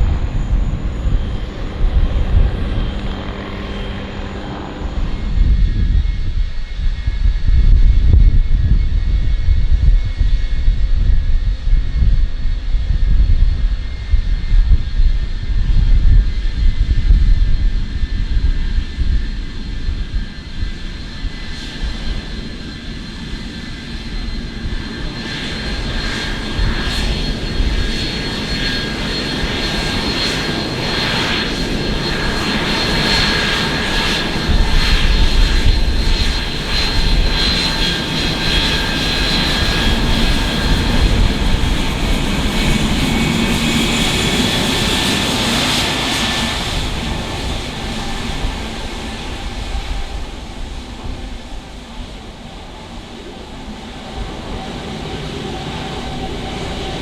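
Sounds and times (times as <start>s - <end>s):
jet airliner engines passing: 0.0s - 57.0s.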